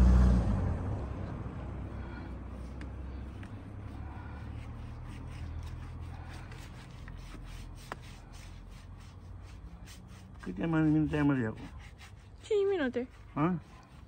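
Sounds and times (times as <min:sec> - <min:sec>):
low steady rumble: 0:00.0 - 0:14.0
paintbrush stroking on wood: 0:02.5 - 0:14.0.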